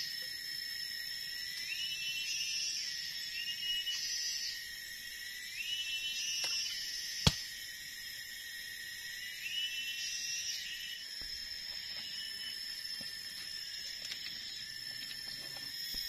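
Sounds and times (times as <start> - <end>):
insects droning high-pitched: 0.0 - 16.0.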